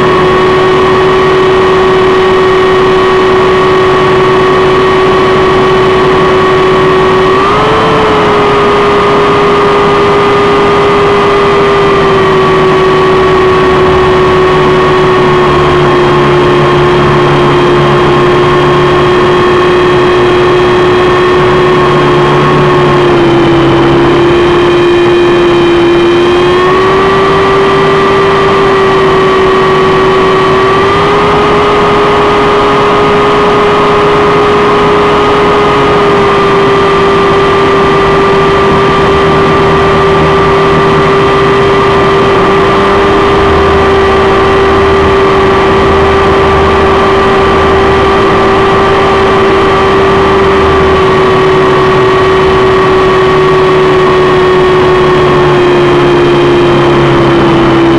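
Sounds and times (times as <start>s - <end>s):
helicopter engine and rotor whine: 0.0s - 57.9s.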